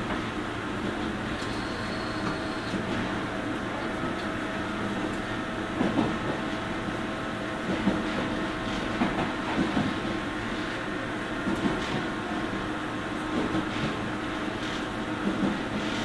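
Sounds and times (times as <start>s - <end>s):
electric train running hum: 0.0s - 16.0s.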